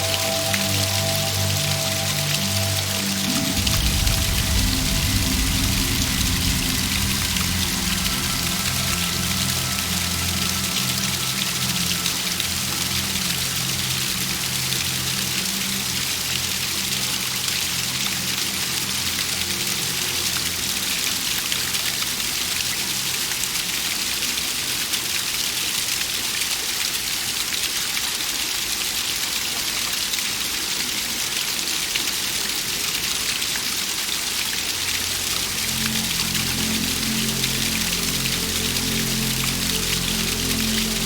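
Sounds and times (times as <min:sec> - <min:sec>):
waterfall splashing: 0:00.0 - 0:41.0.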